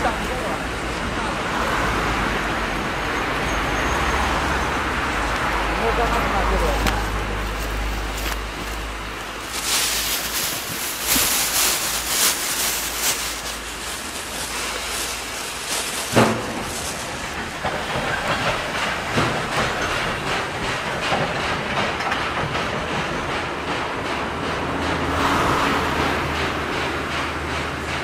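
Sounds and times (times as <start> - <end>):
steam hissing: 0.0 - 28.0
steam locomotive exhaust beats: 0.0 - 28.0
wheels clicking over rail joints: 0.0 - 28.0.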